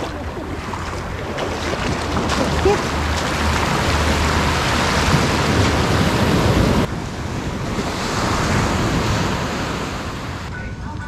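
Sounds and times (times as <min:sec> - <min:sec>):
surf washing on beach: 0:00.0 - 0:10.5
wind rumbling on microphone: 0:00.0 - 0:11.0.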